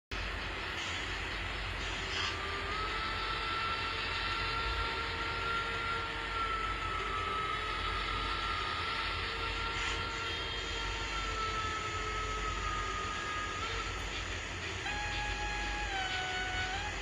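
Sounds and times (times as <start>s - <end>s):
wheels rattling on rail: 0.1s - 17.0s
small electric motor whine: 0.2s - 17.0s.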